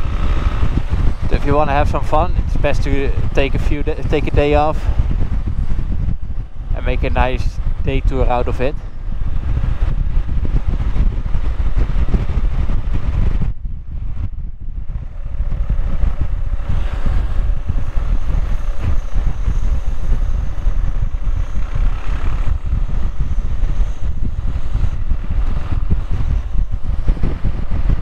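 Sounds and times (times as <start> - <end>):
motorcycle engine running: 0.0 - 3.8, 4.4 - 28.0
wind rush on microphone: 0.0 - 28.0.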